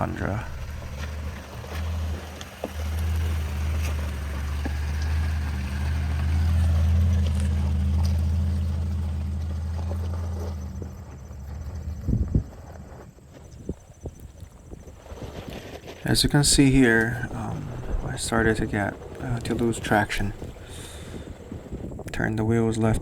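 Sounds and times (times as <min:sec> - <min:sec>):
truck engine low drone: 0:00.0 - 0:23.0.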